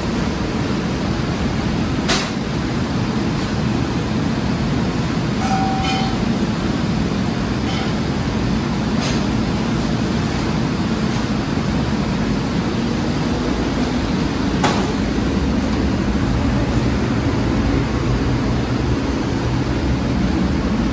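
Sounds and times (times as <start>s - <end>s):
machinery low drone: 0.0s - 20.9s.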